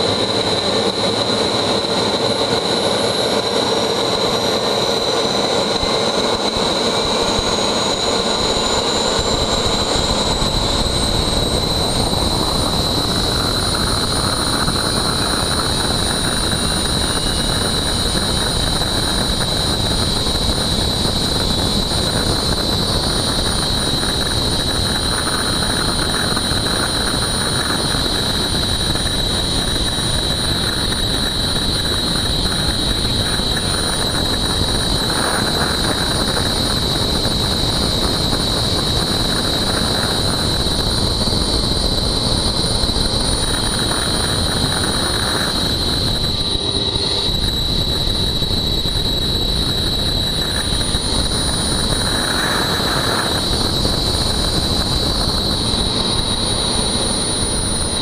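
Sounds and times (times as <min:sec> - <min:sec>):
helicopter rotor rushing: 0:00.0 - 0:58.0
high-pitched turbine whine: 0:00.0 - 0:58.0.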